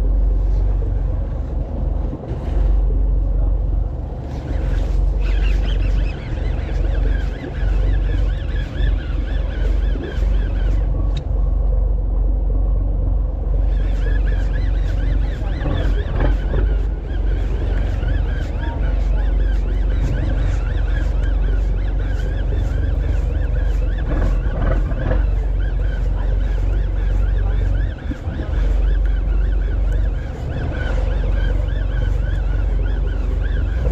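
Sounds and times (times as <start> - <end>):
boat engine rumbling: 0.0 - 33.9
wind noise on microphone: 0.0 - 33.9.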